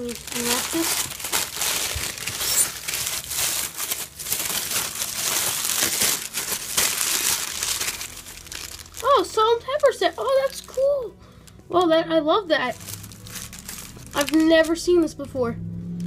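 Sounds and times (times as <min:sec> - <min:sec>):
paper crinkling and rustling: 0:00.0 - 0:11.0, 0:12.6 - 0:15.4.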